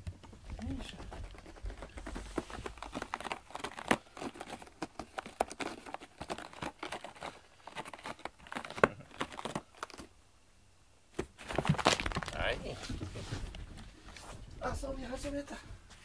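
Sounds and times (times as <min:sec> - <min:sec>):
cat scratching in cardboard box: 0:00.0 - 0:10.1, 0:11.2 - 0:14.5.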